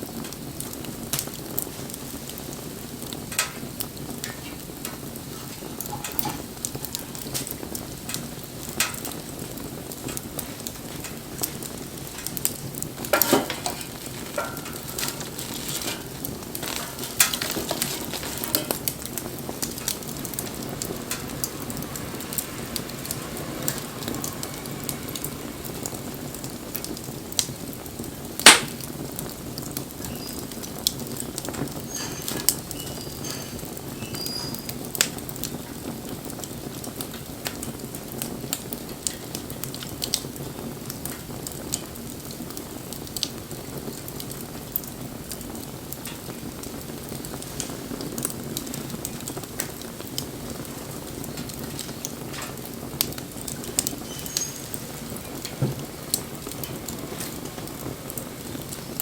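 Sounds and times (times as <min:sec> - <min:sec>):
sharp pops from fire: 0:00.0 - 0:59.0
wood fire crackling: 0:00.0 - 0:59.0.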